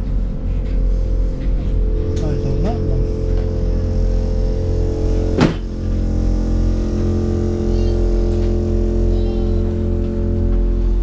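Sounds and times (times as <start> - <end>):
train engine rumble and hum: 0.0 - 11.0.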